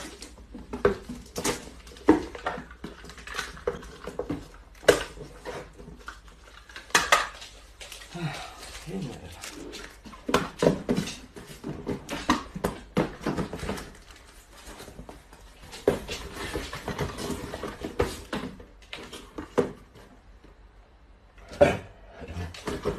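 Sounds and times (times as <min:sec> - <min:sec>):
cardboard rustling and scraping: 0:00.0 - 0:20.4.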